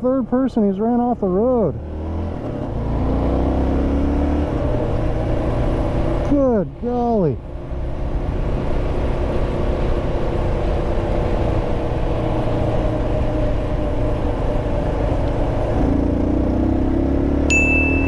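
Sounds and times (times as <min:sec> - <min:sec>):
wind and road noise: 0:00.0 - 0:18.0
motorcycle engine accelerating: 0:00.9 - 0:06.5, 0:07.7 - 0:18.0.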